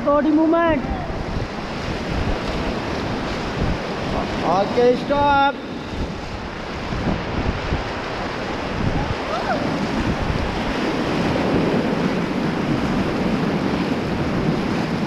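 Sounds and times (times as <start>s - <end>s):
whitewater rushing and churning: 0.0s - 15.0s
wind buffeting microphone: 0.0s - 15.0s.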